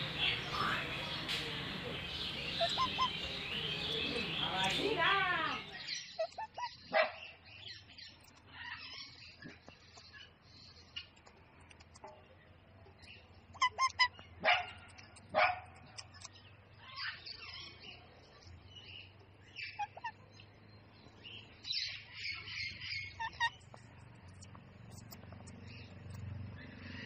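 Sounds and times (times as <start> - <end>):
parakeets squawking and chattering: 0.0 - 12.2, 13.0 - 18.0, 18.8 - 27.0.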